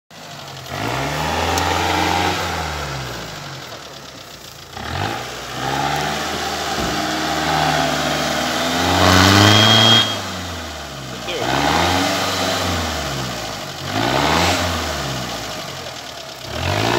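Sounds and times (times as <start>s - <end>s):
car engine revving under load: 0.1s - 16.9s.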